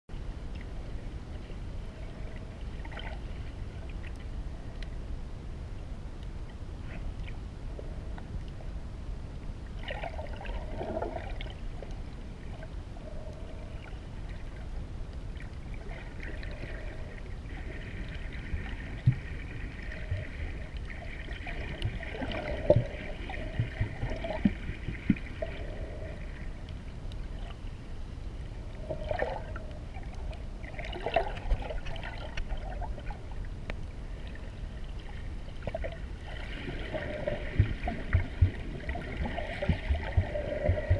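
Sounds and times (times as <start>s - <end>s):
faint whine: 0.1s - 40.9s
underwater rumble: 0.1s - 40.9s
water gurgles: 0.5s - 4.8s, 9.6s - 40.9s.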